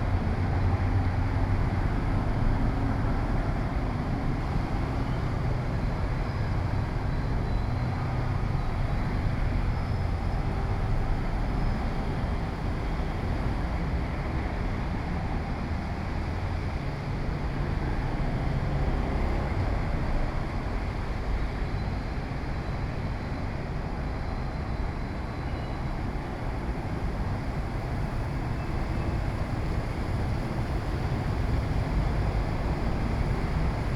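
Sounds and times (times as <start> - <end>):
street traffic rumble: 0.0 - 33.9.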